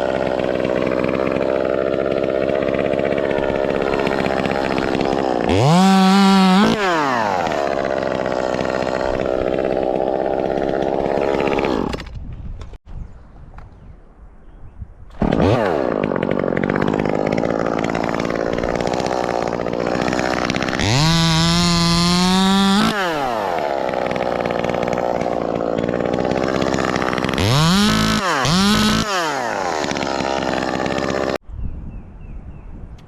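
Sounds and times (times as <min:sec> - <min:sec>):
chainsaw engine revving: 0:00.0 - 0:12.1, 0:15.1 - 0:31.4.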